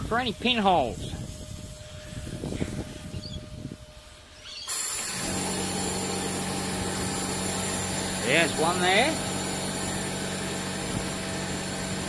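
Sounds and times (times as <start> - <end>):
compressed air blower hissing: 0.0 - 12.0.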